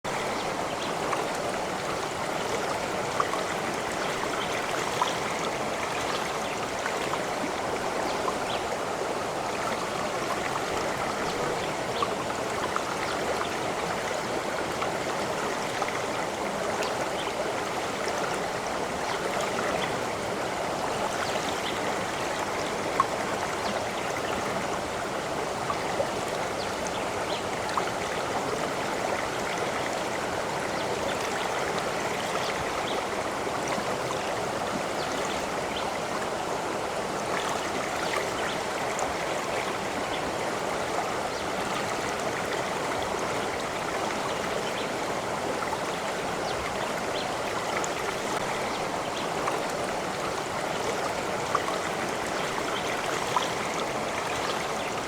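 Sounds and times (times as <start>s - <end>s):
stream flowing with gurgles: 0.0s - 55.0s.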